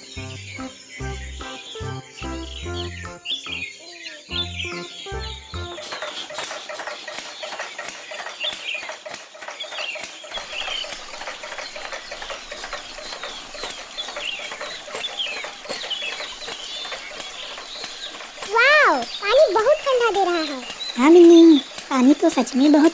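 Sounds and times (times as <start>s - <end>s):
high bird chirps: 0.0s - 6.6s, 9.6s - 22.9s
chickens clucking: 0.0s - 22.9s.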